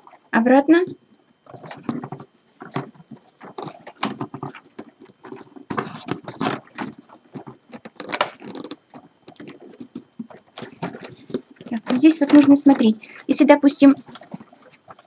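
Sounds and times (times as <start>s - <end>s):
paper tubes rustling and clicking: 1.5s - 15.0s.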